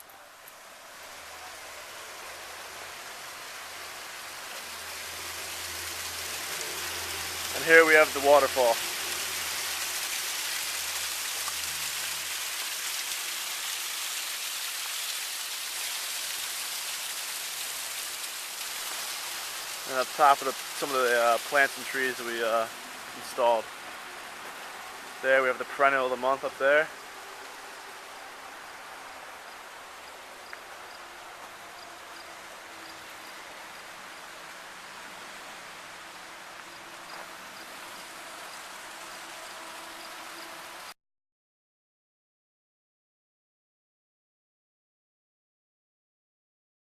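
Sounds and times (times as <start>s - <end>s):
waterfall splashing over rocks: 0.0s - 40.9s.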